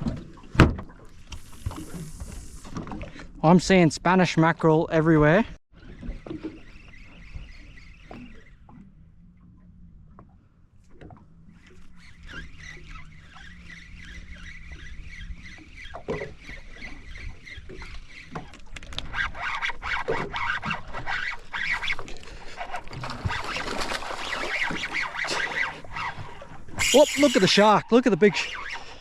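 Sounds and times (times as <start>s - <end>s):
water splashing against boat: 0.0s - 29.0s.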